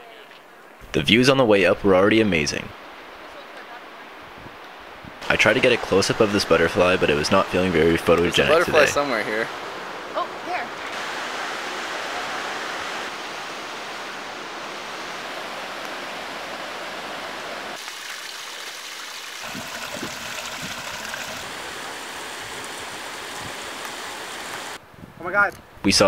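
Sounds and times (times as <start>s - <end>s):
creek rushing over boulders: 0.1s - 24.8s.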